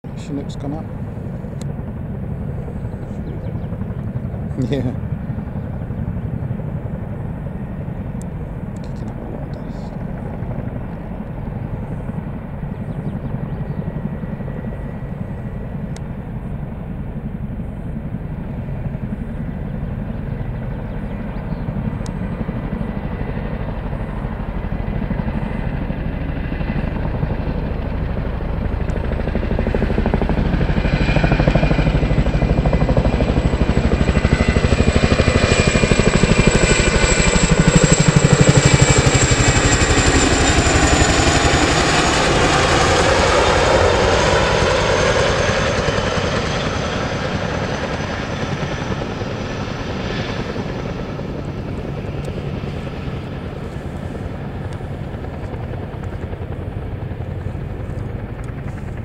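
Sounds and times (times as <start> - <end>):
helicopter rotors beating: 0.1 - 59.0
turbine engines whining: 0.1 - 59.0.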